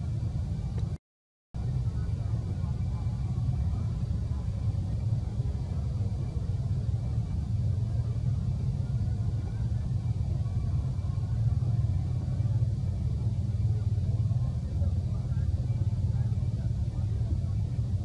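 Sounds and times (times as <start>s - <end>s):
low outdoor background rumble: 0.0s - 1.0s, 1.6s - 18.0s.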